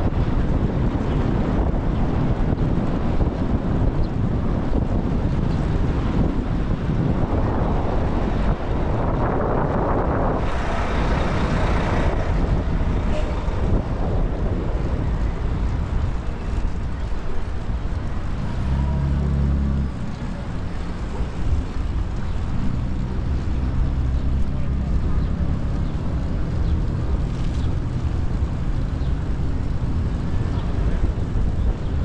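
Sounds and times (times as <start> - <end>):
cars and heavy vehicles passing: 0.0 - 32.0
low engine hum: 0.0 - 32.0
wind on microphone: 0.0 - 32.0.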